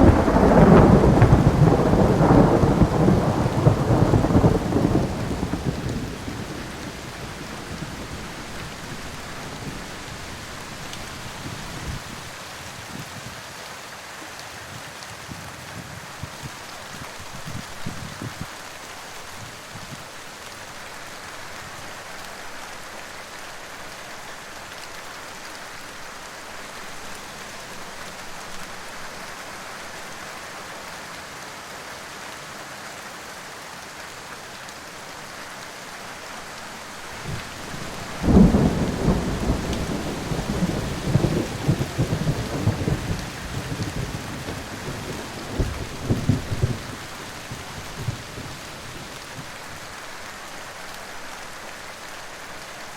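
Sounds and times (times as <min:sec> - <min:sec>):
rain hissing: 0:00.0 - 0:52.9.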